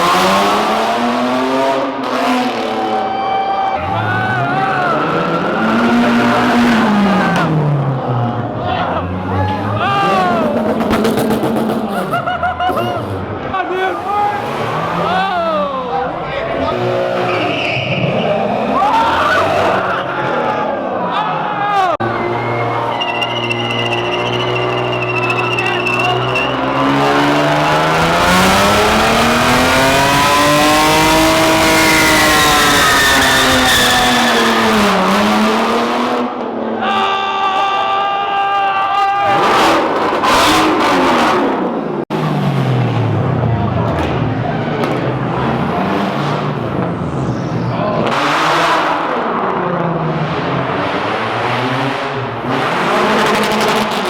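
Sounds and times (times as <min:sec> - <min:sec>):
car engine at high revs: 0:00.0 - 0:03.0, 0:03.8 - 0:13.5, 0:16.4 - 0:20.4, 0:22.0 - 0:36.8, 0:39.2 - 0:54.0.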